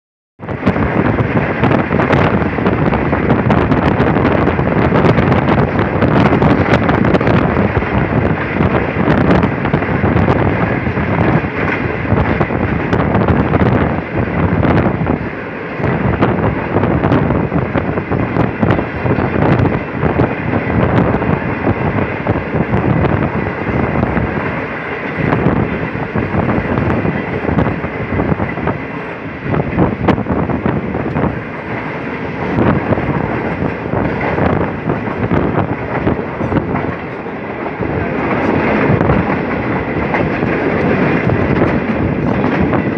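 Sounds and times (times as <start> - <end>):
train running on track: 0.4 - 42.9
wind buffeting microphone: 0.4 - 42.9.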